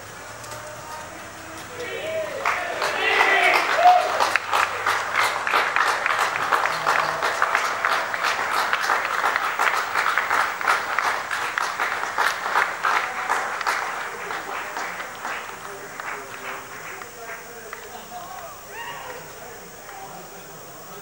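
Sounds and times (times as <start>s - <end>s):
crowd applauding: 0.0s - 21.0s.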